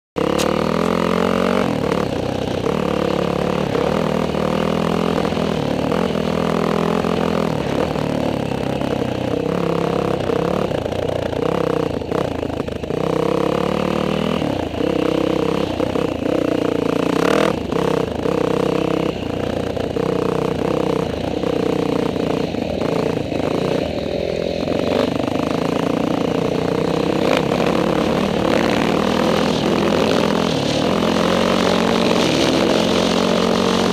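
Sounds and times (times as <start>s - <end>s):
dirt bike engine revving: 0.2s - 33.9s.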